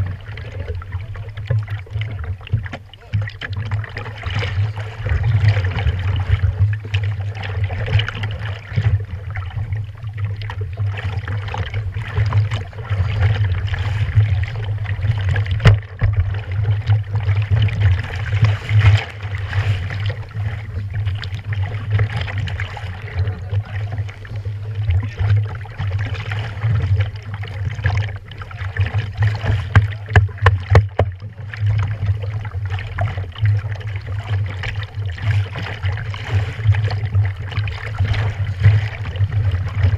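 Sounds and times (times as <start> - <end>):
knocks and splashes: 0.0 - 39.9
small waves lapping against hull: 0.0 - 39.9
steady low rumble: 0.0 - 39.9.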